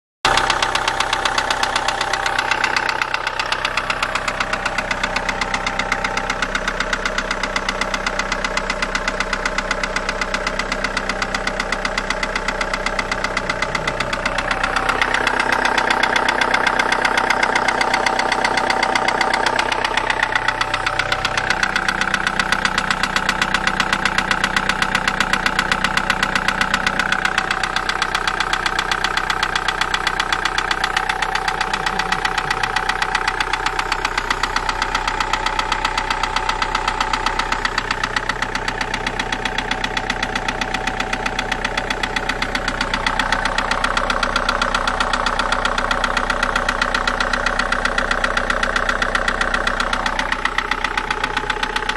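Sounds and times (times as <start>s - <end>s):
diesel engine idling with knock: 0.3s - 51.9s.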